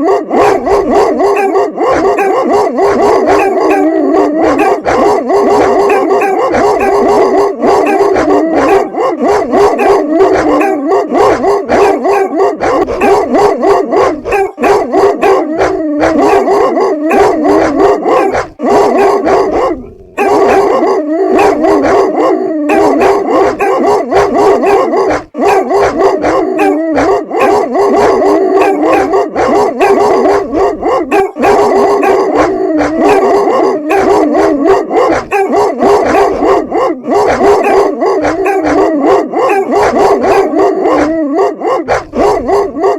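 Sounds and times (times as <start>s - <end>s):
dogs barking: 0.0s - 42.9s.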